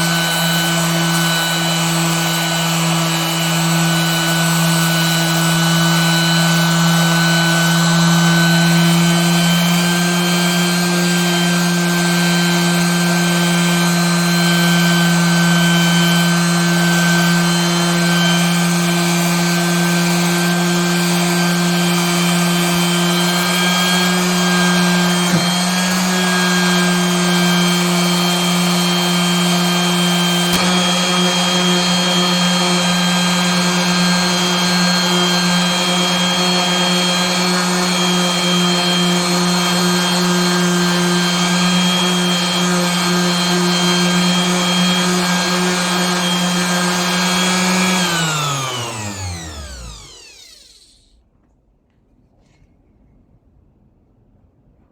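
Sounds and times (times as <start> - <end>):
electric power tool running: 0.0 - 51.2.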